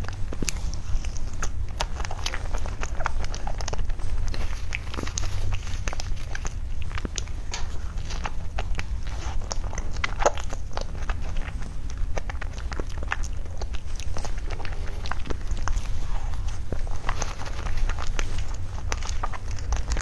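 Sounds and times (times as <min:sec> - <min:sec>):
person chewing soft food: 0:00.0 - 0:20.0.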